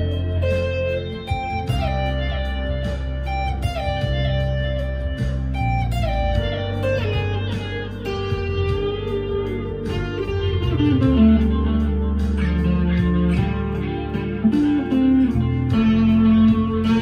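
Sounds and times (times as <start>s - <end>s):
overdriven electric guitar lead: 0.0s - 17.0s.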